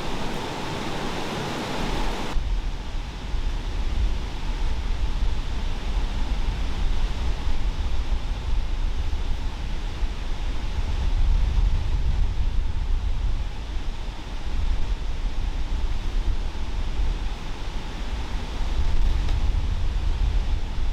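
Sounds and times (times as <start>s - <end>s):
deep fluttering rumble: 0.0s - 20.9s
rushing outdoor noise: 0.0s - 20.9s.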